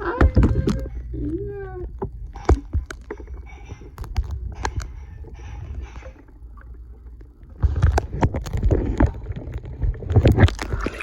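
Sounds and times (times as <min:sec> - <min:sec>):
water splashing and sloshing: 0:01.9 - 0:11.0.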